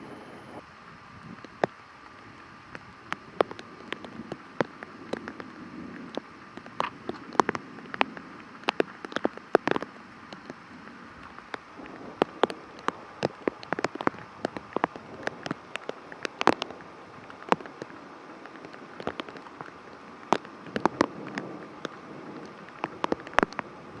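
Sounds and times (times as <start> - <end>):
rain hissing: 0.0 - 24.0
sharp raindrop hits: 0.0 - 24.0.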